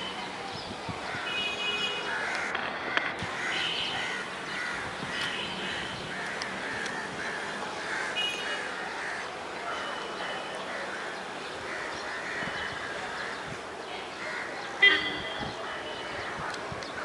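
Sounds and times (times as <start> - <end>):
harsh bird calls: 0.6 - 17.0.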